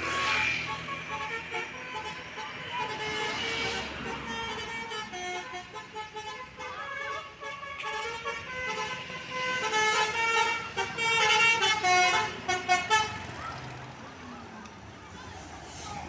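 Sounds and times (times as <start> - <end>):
multi-tone bus air horn tune: 0.0 - 13.5.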